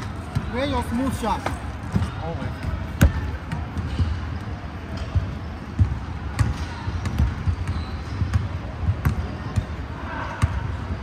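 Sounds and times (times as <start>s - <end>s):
basketballs bouncing on wood floor: 0.3s - 9.8s.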